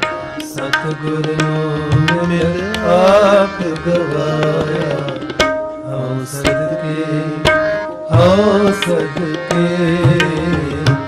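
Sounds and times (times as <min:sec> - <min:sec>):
harmonium reed tones: 0:00.0 - 0:11.0
tabla strokes: 0:00.0 - 0:11.0.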